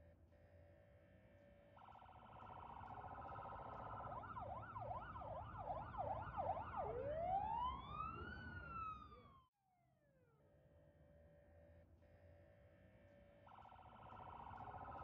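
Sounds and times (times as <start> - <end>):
police siren yelp and wail: 0.0 - 15.0.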